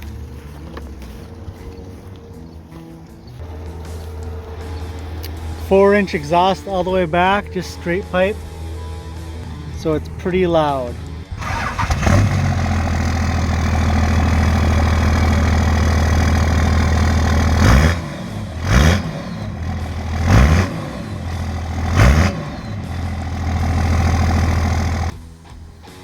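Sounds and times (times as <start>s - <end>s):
diesel engine idling and revving: 0.0s - 25.2s.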